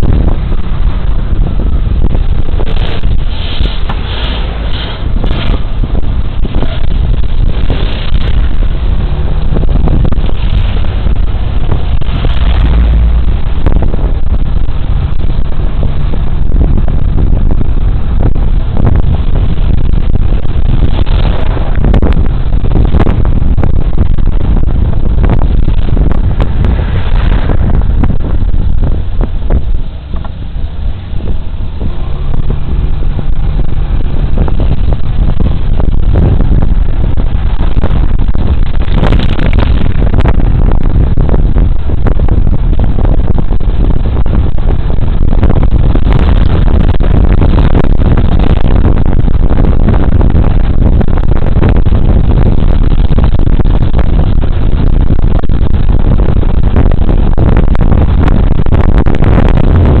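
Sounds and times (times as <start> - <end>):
road noise: 0.0 - 60.0
wind rush on microphone: 0.0 - 60.0.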